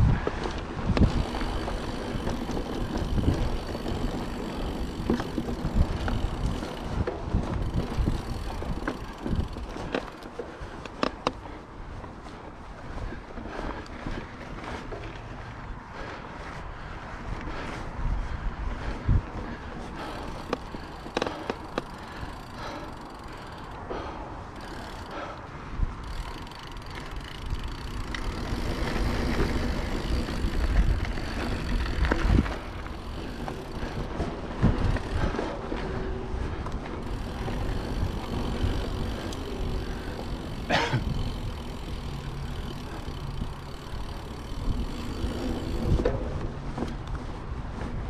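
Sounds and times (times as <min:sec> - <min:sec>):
bike knocking and rattling: 0:00.0 - 0:48.0
bike tyres rumbling on trail: 0:00.0 - 0:48.0.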